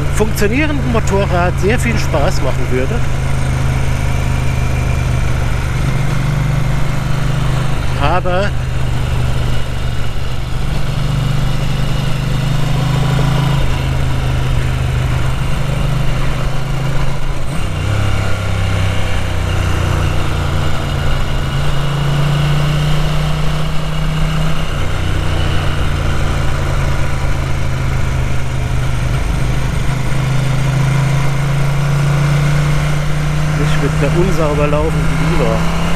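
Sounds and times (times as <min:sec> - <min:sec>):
motorcycle engine revving unevenly: 0:00.0 - 0:35.9.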